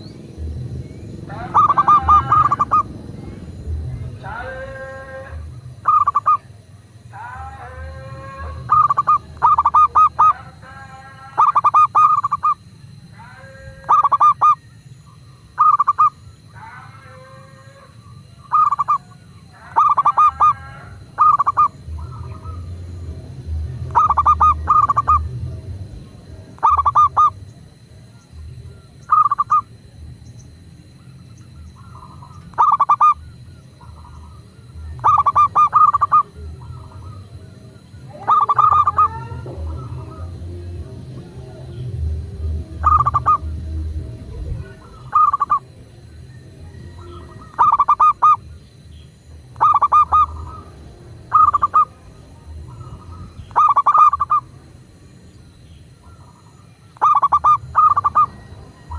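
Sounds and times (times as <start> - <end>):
low steady rumble: 0.0 - 16.8, 17.6 - 58.9
doves cooing: 0.0 - 58.9
soft gliding bird calls: 0.0 - 58.9.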